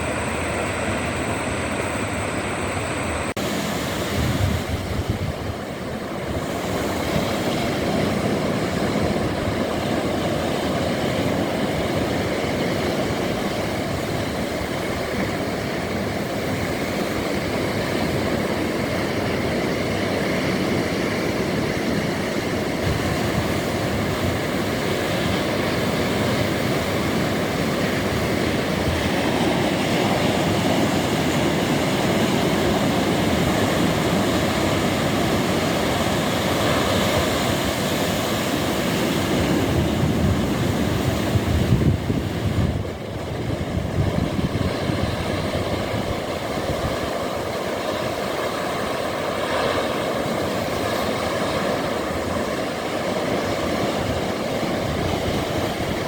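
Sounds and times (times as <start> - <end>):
ocean waves rushing: 0.0 - 56.0.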